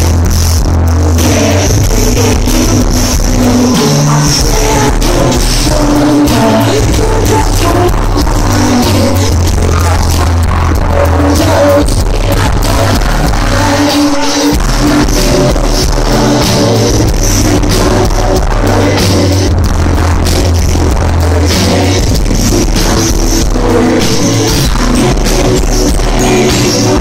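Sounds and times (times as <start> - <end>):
heavy distorted bass: 0.0 - 27.0
live band music with singing: 0.0 - 27.0.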